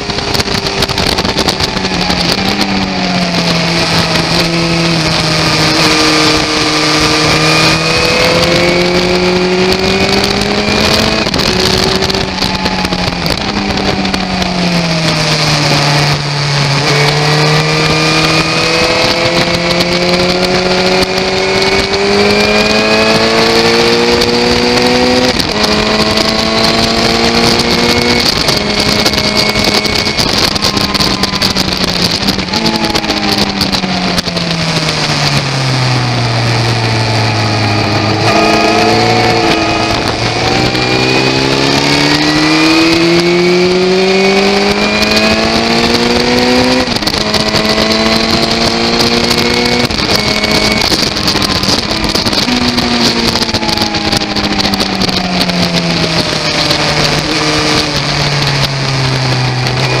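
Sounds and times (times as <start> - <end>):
motorcycle engine revving: 0.0 - 60.0
wind rushing: 0.0 - 60.0.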